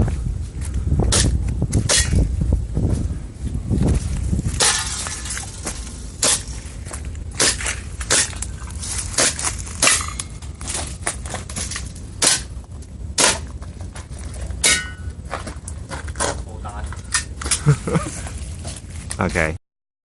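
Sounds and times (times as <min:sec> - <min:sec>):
steady low rumble: 0:00.0 - 0:19.6.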